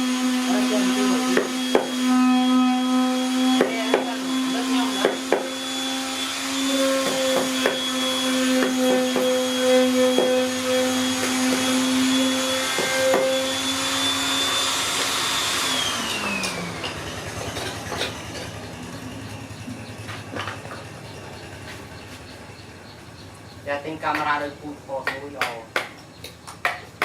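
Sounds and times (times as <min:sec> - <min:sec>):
power tool motor whining: 0:00.0 - 0:24.1.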